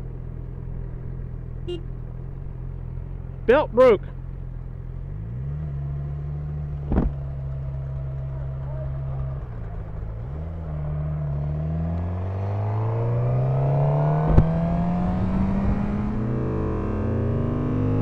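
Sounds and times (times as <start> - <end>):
motorcycle engine revving: 0.6 - 18.0.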